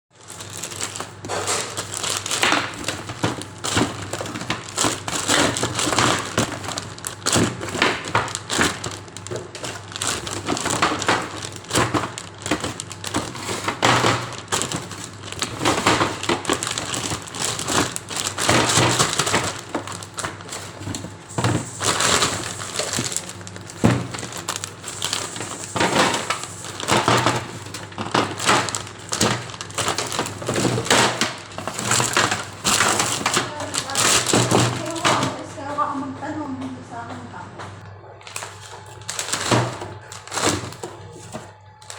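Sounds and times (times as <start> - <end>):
plastic bags rustling: 0.1 - 37.0, 37.8 - 41.9.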